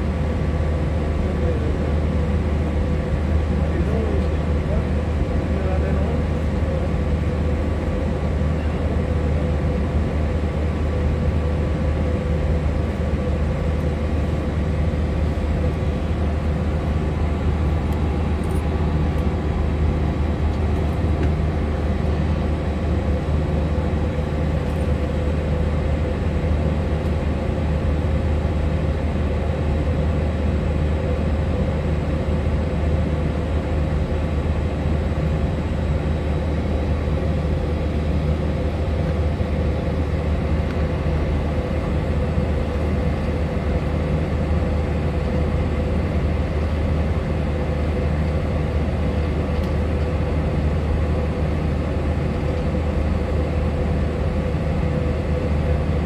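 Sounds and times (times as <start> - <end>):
low cabin drone: 0.0 - 56.0.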